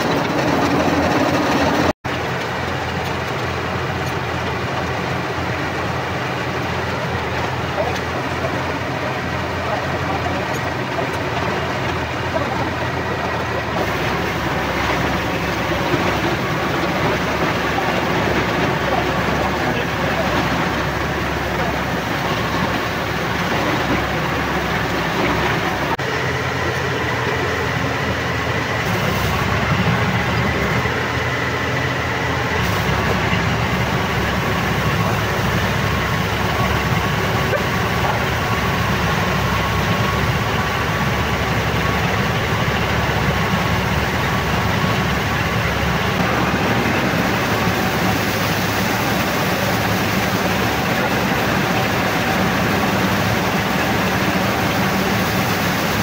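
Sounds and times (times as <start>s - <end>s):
drilling rig rumbling: 0.0s - 56.0s.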